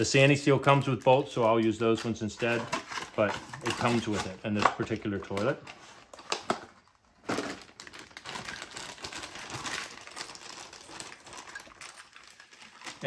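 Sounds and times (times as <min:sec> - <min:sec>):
packaging crinkling: 0:02.3 - 0:13.0.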